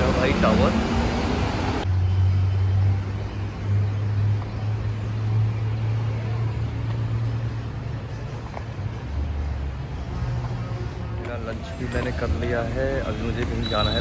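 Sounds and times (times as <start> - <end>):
distant road traffic rumble: 0.0 - 14.0
outdoor background noise: 0.0 - 14.0.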